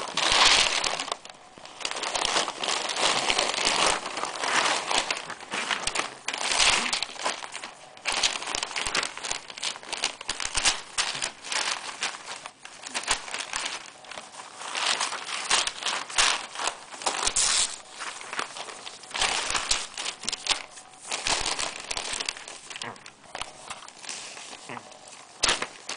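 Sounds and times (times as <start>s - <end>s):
newspaper rustling and crinkling: 0.0s - 25.9s.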